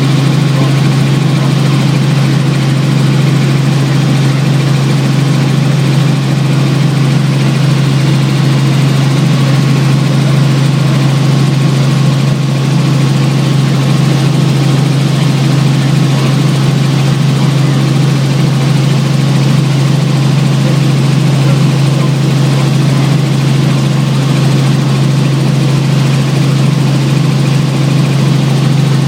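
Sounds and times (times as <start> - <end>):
helicopter drone: 0.0 - 29.0.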